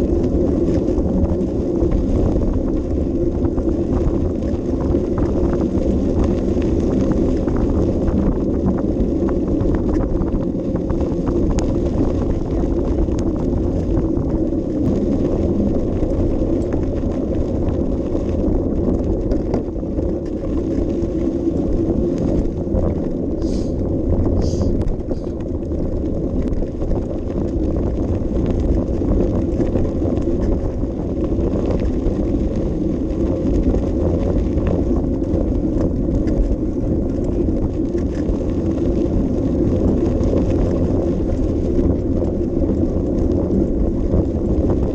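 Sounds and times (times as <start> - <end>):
bike rattling while rolling: 0.0 - 44.9
wind rumble on microphone: 0.0 - 44.9.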